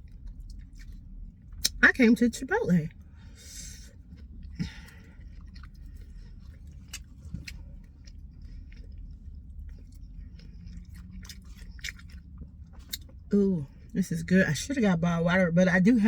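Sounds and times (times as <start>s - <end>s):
person chewing food: 0.0s - 1.8s, 2.9s - 14.0s.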